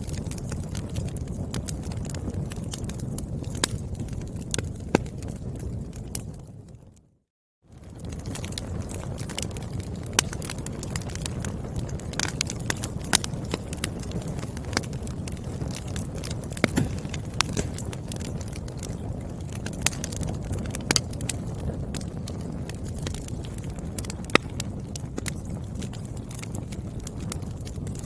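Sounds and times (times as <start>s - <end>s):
firewood crackling and popping: 0.0s - 7.1s, 7.7s - 28.0s.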